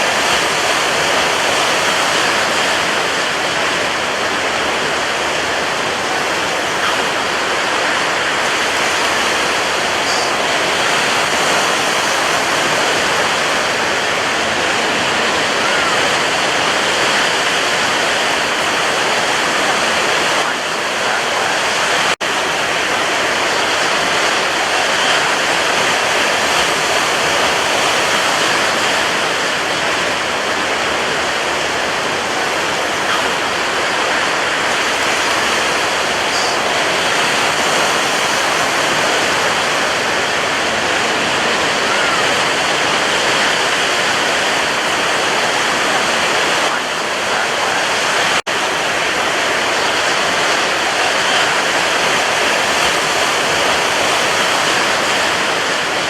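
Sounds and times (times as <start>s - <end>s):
sea waves washing: 0.0s - 56.0s.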